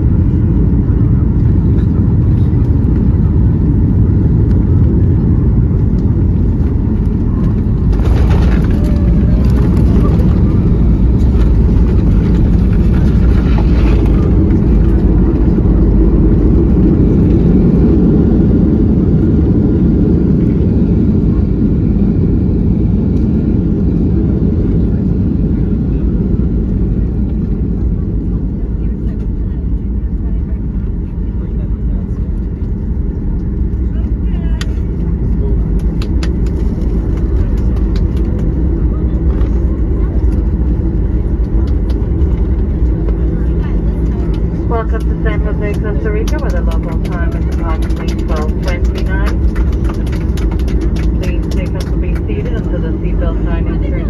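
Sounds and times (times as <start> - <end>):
airplane cabin engine roar: 0.0 - 54.0.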